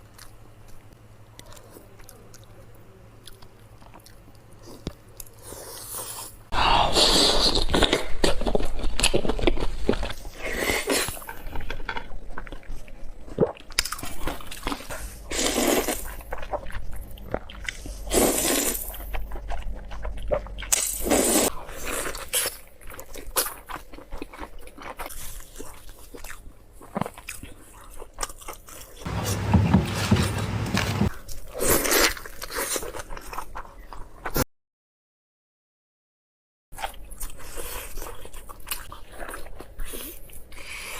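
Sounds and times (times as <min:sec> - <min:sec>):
chewing food: 0:00.0 - 0:06.4, 0:07.4 - 0:34.4, 0:36.8 - 0:40.9.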